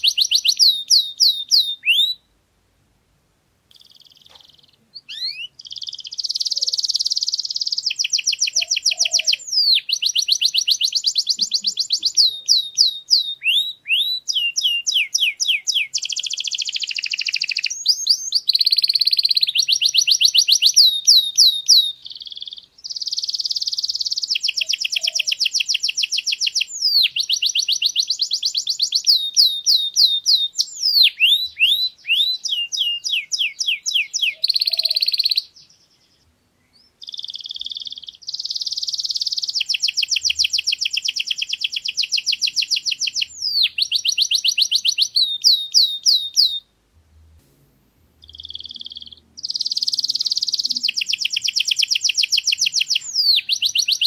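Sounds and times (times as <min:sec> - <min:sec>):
canary singing trills: 0:00.0 - 0:02.3, 0:03.7 - 0:46.7, 0:48.2 - 0:54.0.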